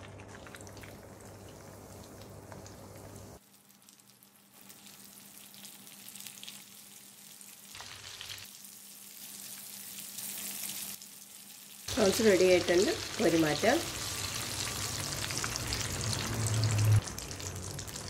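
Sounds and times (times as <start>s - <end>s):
prawns sizzling in hot oil: 0.7s - 18.0s.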